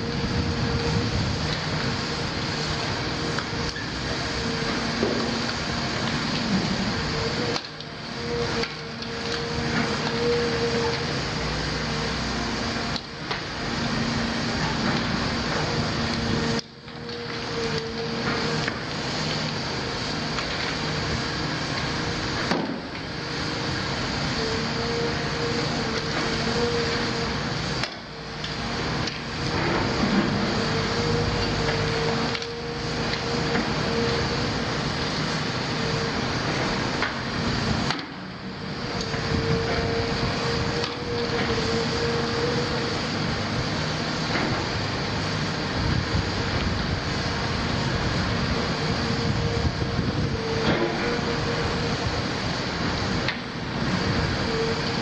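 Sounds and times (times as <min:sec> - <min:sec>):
excavator diesel engine drone: 0:00.0 - 0:55.0
hydraulic pump whine: 0:00.0 - 0:55.0.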